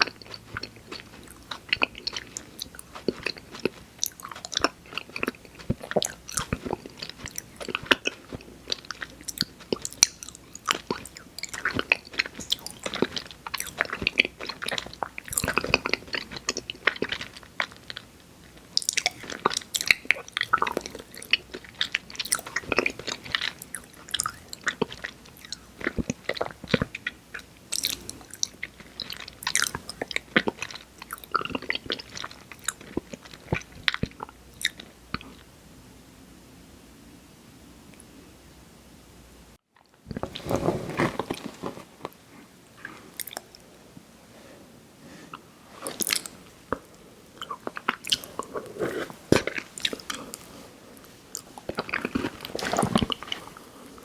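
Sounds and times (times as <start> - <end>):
crunching candy: 0.0 - 34.9, 39.8 - 42.2, 45.8 - 54.0.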